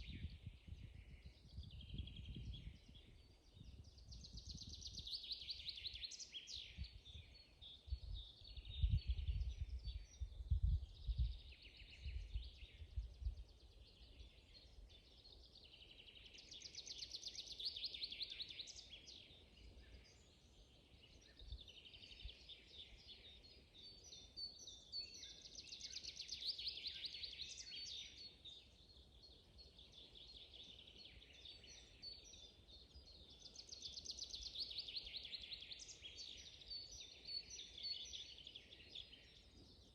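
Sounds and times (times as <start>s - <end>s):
trilled birdsong: 0.0s - 39.9s.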